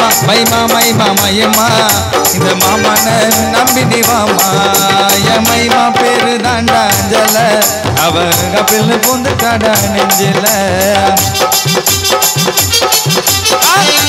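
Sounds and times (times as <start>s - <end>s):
drum and bass beat: 0.0s - 14.0s
fast high percussion rhythm: 0.0s - 14.0s
wavering keyboard melody: 0.0s - 14.0s.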